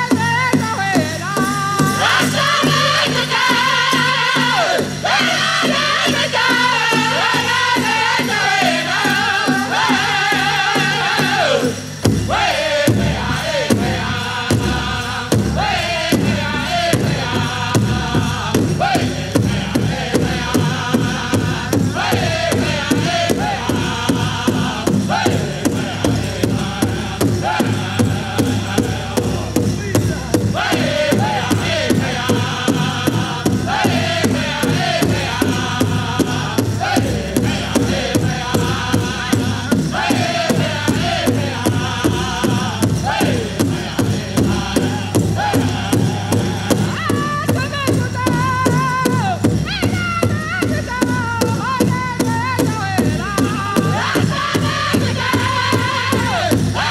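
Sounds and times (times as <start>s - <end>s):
big drum beating steadily: 0.0s - 56.9s
group of voices singing: 0.0s - 56.9s.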